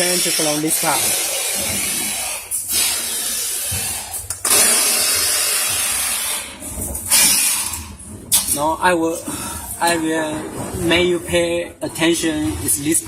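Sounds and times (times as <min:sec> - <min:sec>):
workshop machinery rasping: 0:00.0 - 0:13.0.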